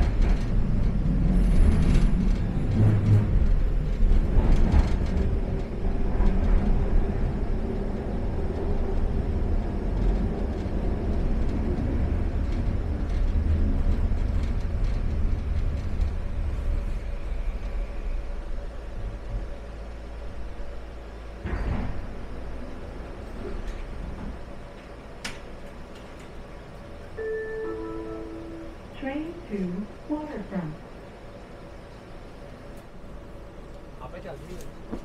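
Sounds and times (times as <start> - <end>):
train low rumble: 0.0 - 35.0
faint hum: 6.1 - 35.0.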